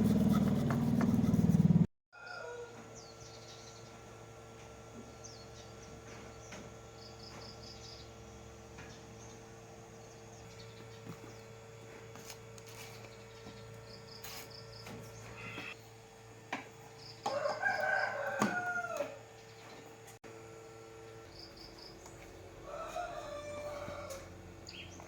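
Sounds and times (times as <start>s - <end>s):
low electrical hum: 2.4s - 25.0s.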